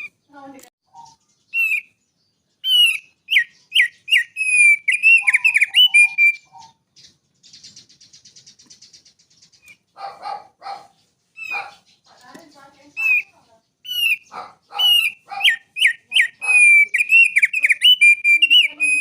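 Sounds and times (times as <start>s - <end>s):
bird singing whistled notes and trills: 0.0s - 19.0s
harsh bird calls: 0.0s - 19.0s.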